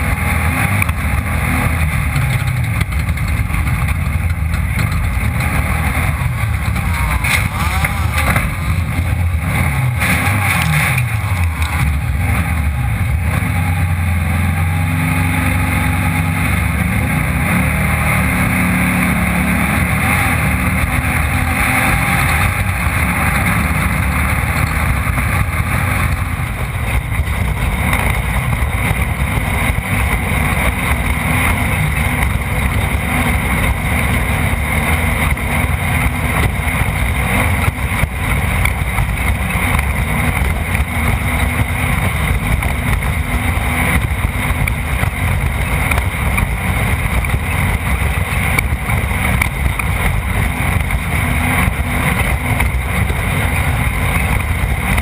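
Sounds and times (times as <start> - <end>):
race car engine rumble: 0.0 - 55.0.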